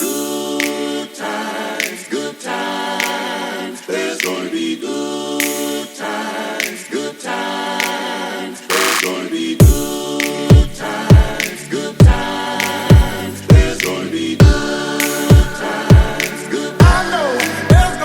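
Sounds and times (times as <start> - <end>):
vocal percussive beat: 0.0 - 18.0
voices singing in harmony: 0.0 - 18.0.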